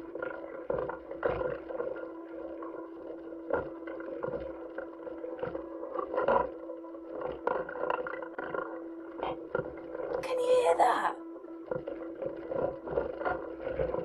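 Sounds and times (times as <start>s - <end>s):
low hum with muffled hiss: 0.0s - 14.0s.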